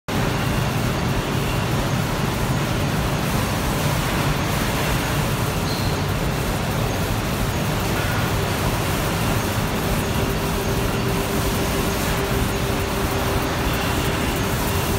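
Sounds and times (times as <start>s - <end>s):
machine running steadily: 0.1s - 14.9s.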